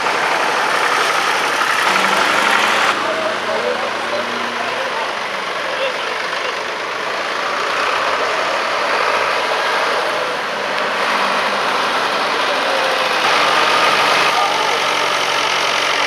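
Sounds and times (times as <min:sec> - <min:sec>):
tractor engines running: 0:00.0 - 0:16.0.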